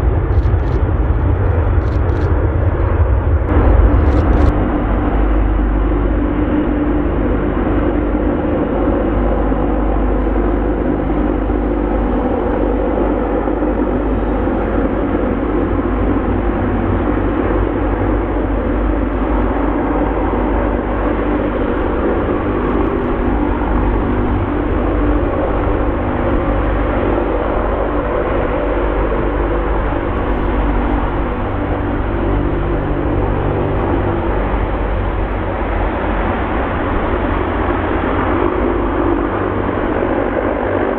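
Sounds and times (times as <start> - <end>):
aircraft engines droning: 0.0 - 40.9.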